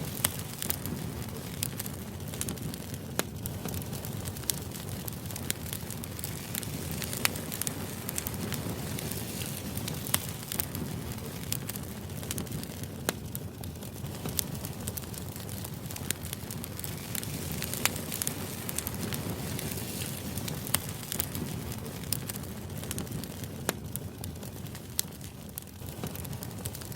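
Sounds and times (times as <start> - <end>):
fire low rumble: 0.0 - 26.9
fire popping and snapping: 0.0 - 26.9.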